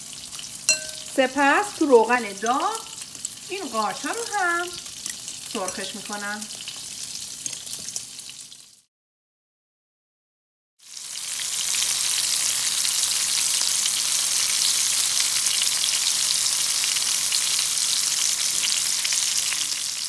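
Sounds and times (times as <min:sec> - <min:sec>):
batter frying in hot oil: 0:00.0 - 0:08.9, 0:10.8 - 0:20.0.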